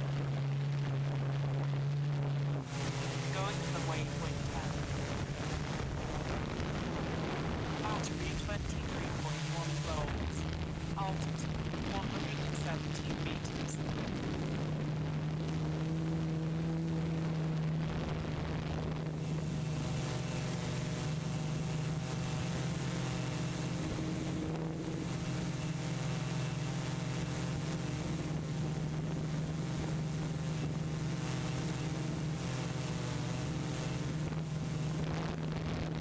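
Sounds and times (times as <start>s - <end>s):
low droning machine hum: 0.0s - 36.0s.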